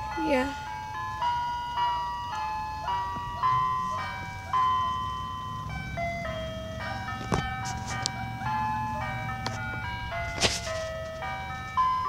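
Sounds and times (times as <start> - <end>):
ice cream truck chime jingle: 0.0 - 12.0.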